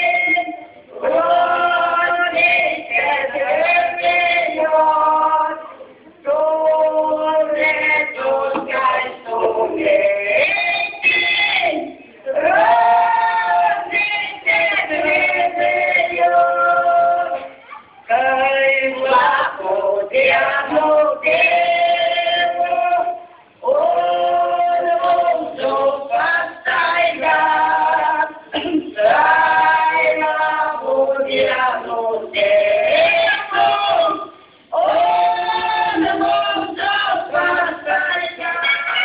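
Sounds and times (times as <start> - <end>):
group singing without accompaniment: 0.0 - 39.0.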